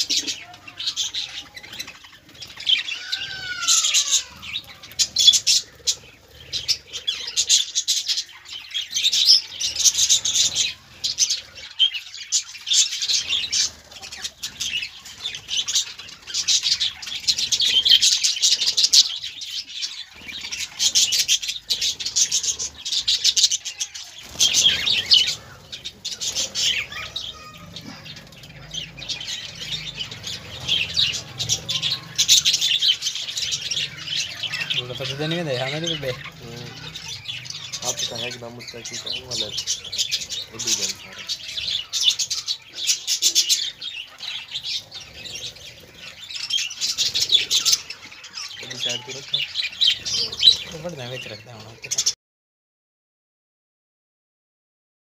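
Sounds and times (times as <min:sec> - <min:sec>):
budgerigars chattering: 0:00.0 - 0:52.2.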